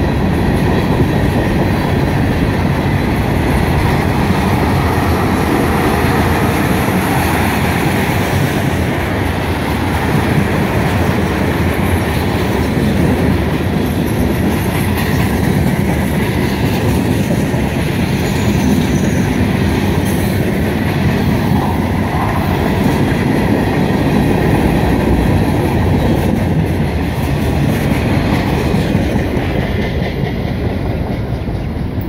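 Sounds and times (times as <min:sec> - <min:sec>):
freight train wheels on rail: 0:00.0 - 0:32.0.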